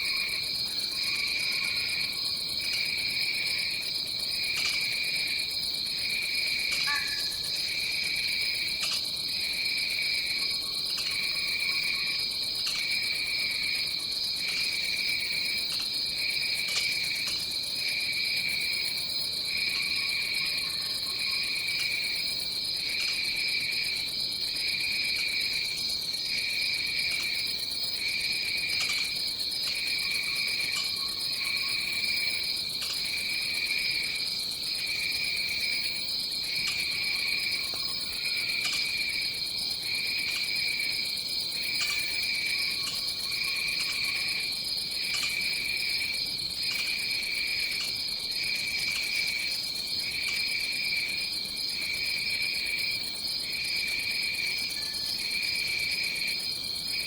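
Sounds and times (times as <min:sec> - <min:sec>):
lower pulsing insect song: 0:00.0 - 0:57.0.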